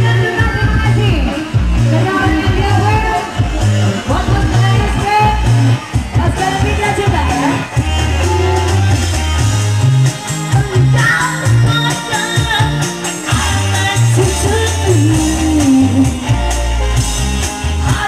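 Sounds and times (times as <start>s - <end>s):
song with singing and heavy bass: 0.0s - 18.0s.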